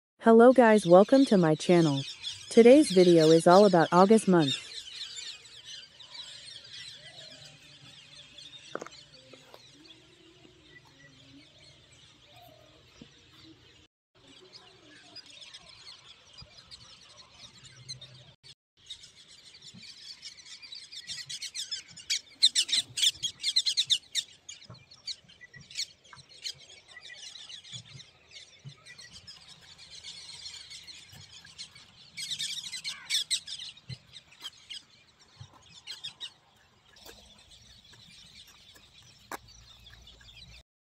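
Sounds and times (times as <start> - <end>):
flock of small birds chirping: 0.6 - 40.6.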